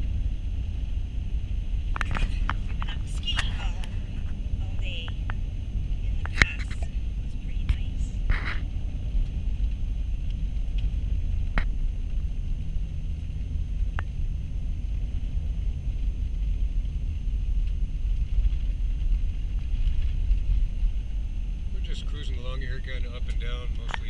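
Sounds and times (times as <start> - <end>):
vehicle driving on snowy road: 0.0 - 24.0.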